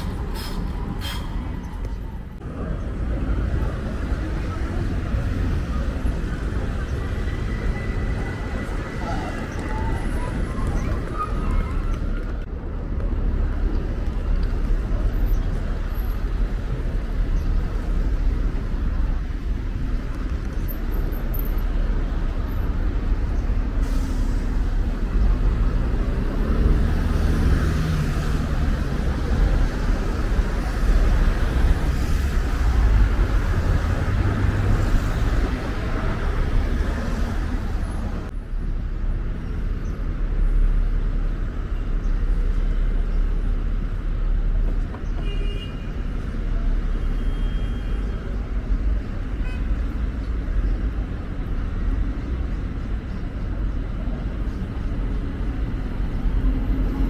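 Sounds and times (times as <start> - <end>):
street traffic rumble: 0.0 - 57.0.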